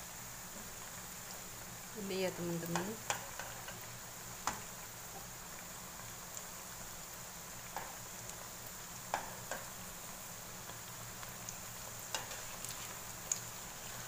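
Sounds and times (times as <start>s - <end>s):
food frying in hot oil: 0.0s - 14.0s.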